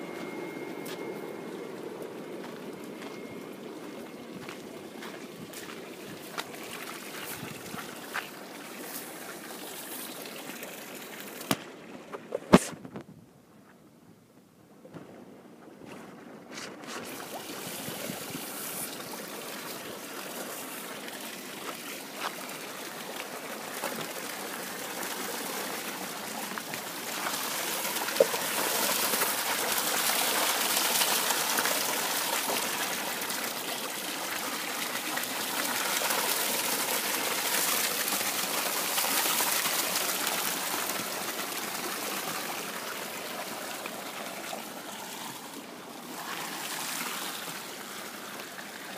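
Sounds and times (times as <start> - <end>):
water running and trickling: 2.0 - 11.5, 17.0 - 48.9.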